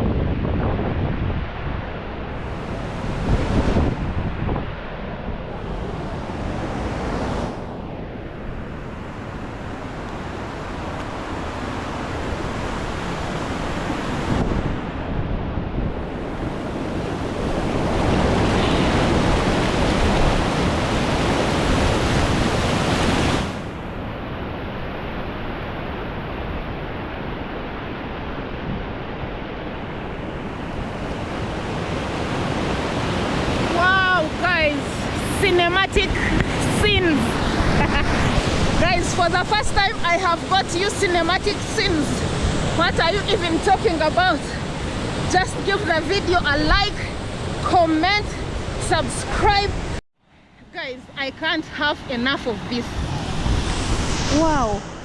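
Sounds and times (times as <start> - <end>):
wind buffeting microphone: 0.0 - 50.0, 51.3 - 55.0
water rushing over rapids: 2.2 - 4.3, 5.5 - 15.1, 15.9 - 50.0.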